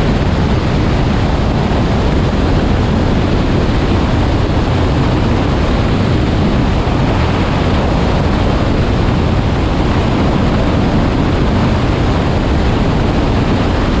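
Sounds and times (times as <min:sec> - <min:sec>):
aircraft engine noise: 0:00.0 - 0:14.0
wind buffeting microphone: 0:00.0 - 0:14.0.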